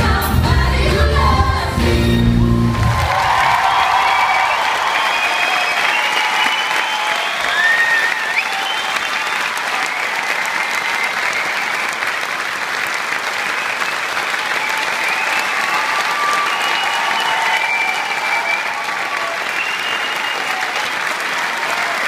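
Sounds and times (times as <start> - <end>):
audience applauding: 2.4 - 22.0.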